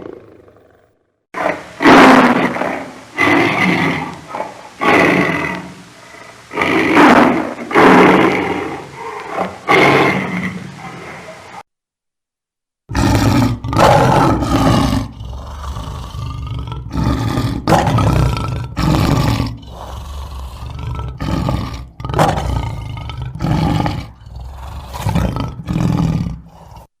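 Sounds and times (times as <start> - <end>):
lion roaring: 0.0 - 11.6, 12.9 - 26.9.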